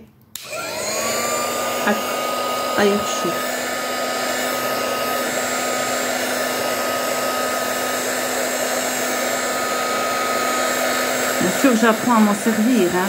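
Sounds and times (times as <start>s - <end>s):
heat gun fan whining: 0.3s - 13.0s.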